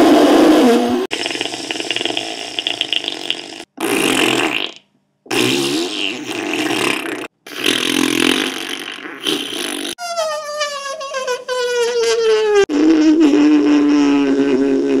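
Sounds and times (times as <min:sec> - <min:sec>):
long fart sounds: 0:00.0 - 0:15.0.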